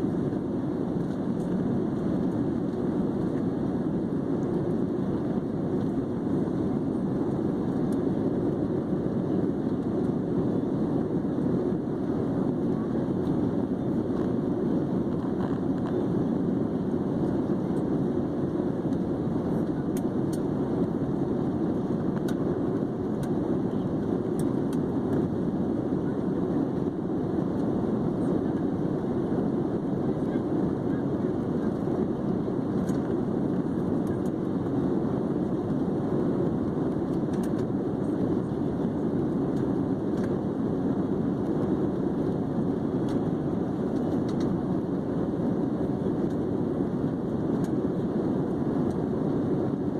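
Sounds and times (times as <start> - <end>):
jet engines and rushing air: 0.0 - 49.9.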